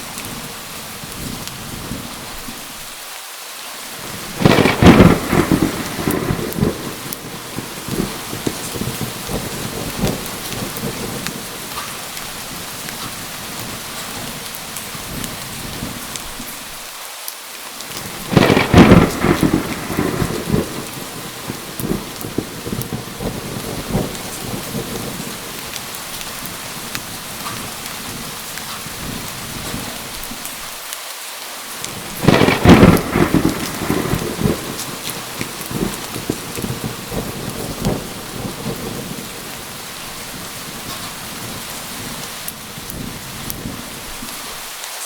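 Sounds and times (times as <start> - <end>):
steady heavy rain: 0.0 - 45.0
thunder cracking and rumbling: 0.1 - 2.6, 4.0 - 16.5, 17.9 - 30.7, 31.8 - 44.6.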